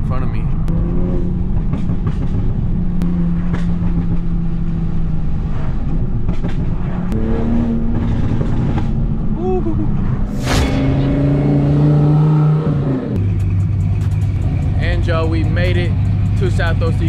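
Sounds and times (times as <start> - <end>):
car engine and exhaust cruising: 0.0 - 17.0.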